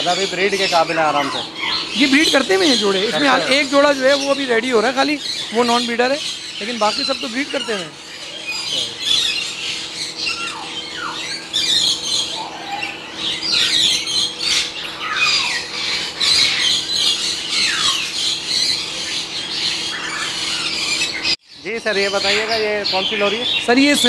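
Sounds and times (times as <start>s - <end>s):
parrots screeching: 0.0s - 24.0s.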